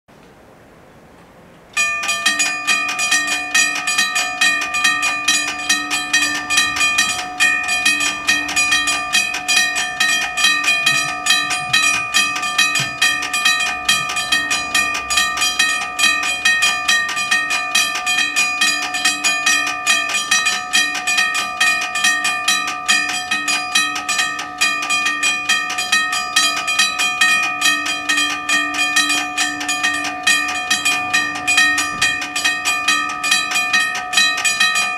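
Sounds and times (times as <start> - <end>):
level crossing warning bells: 1.7 - 34.9.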